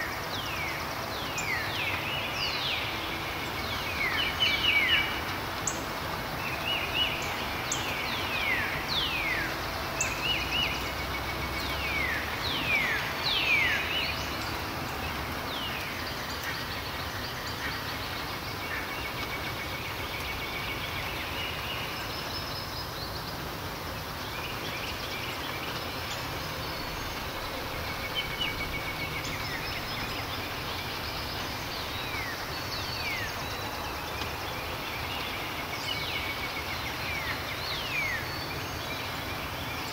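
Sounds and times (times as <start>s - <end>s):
birds chirping: 0.0s - 39.9s
steady background hiss: 0.0s - 39.9s.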